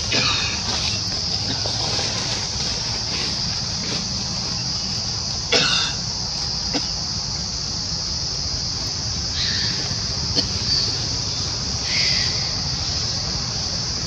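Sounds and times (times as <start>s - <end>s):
high insect buzz: 0.0s - 14.0s.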